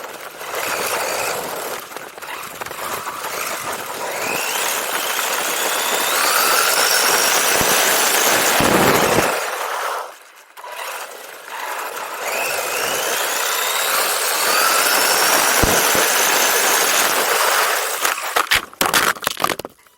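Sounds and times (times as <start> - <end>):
toy car motor whining: 0.0 - 18.7
tyres rolling on path: 0.0 - 19.9.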